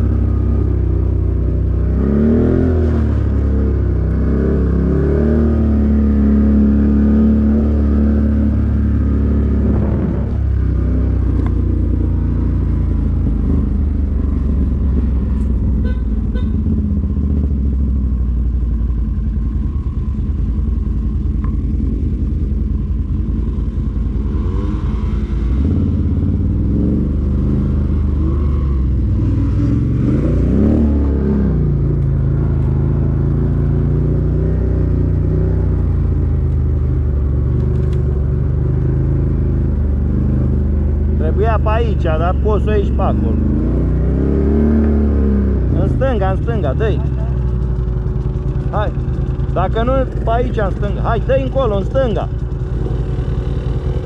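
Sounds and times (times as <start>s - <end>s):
atv engine revving: 0.0s - 18.1s, 21.2s - 54.0s.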